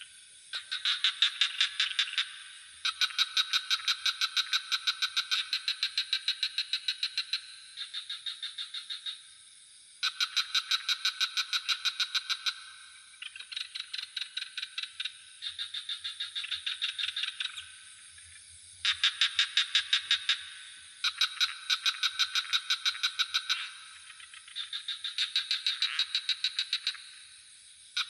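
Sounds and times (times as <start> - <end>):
frogs calling: 0.0 - 28.0
night insects droning: 0.0 - 28.0.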